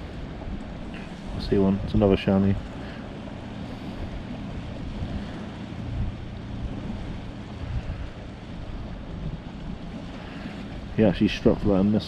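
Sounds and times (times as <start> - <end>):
sea surf rushing: 0.0 - 12.0
wind buffeting microphone: 0.0 - 12.0.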